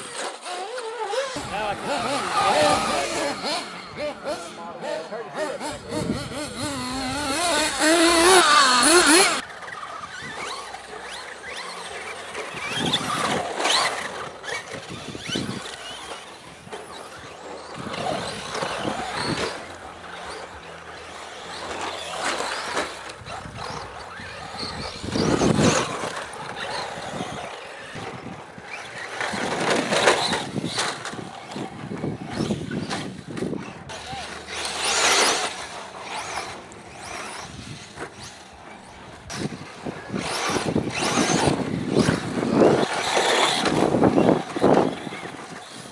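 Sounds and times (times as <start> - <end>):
small engines screaming: 0.0 - 45.9.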